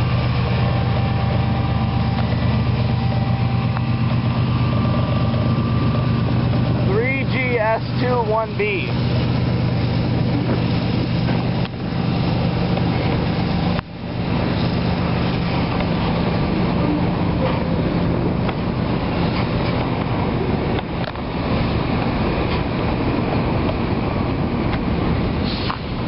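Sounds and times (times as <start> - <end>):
freight train rolling past: 0.0 - 26.0
locomotive diesel engines droning: 0.0 - 26.0.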